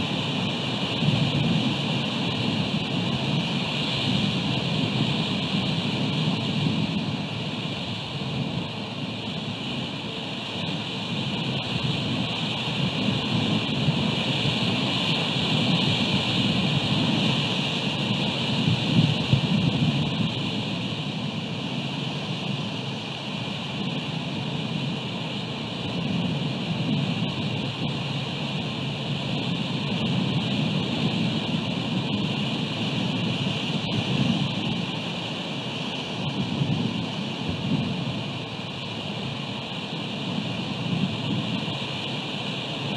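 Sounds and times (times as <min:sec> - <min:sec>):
rain hiss: 0:00.0 - 0:42.9
wind buffeting microphone: 0:00.0 - 0:42.9.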